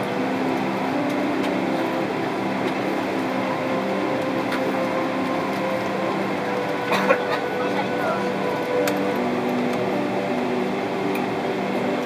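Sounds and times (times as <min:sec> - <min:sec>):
low droning tones: 0:00.0 - 0:12.0.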